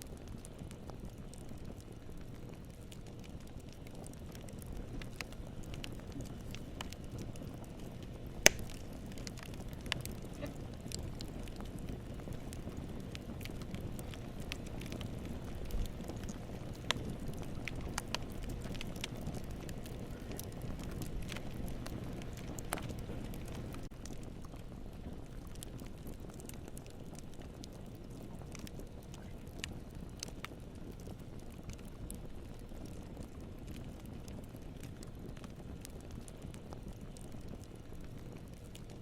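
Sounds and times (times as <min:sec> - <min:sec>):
burning wood crackling and popping: 0:00.0 - 0:39.0
campfire flames rumbling: 0:00.0 - 0:39.0.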